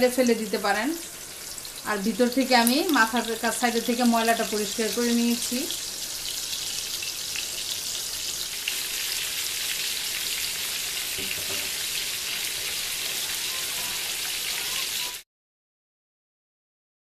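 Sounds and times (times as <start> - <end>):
prawns sizzling in hot oil: 0.0 - 15.2.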